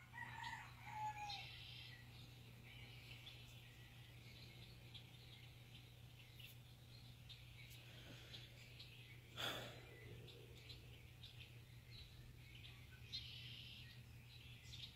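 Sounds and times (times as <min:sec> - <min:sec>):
low steady hum: 0:00.0 - 0:14.9
small birds chirping: 0:00.0 - 0:14.9.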